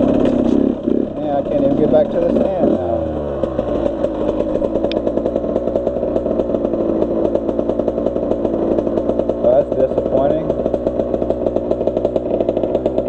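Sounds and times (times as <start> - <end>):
two-stroke motorcycle engine running: 0.0 - 13.0.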